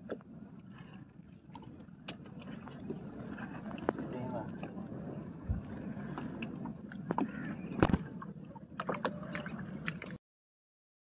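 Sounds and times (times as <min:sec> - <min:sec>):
water and boat noise: 0:00.0 - 0:10.2.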